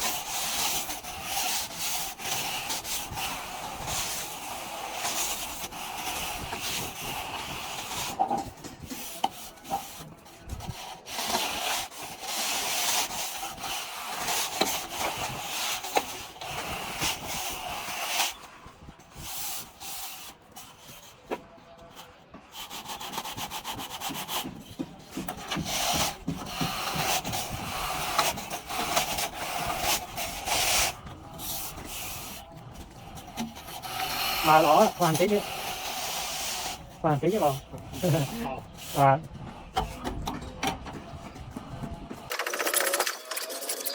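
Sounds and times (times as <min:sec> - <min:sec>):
hand tool scraping plaster wall: 0:00.0 - 0:18.6, 0:22.6 - 0:40.7.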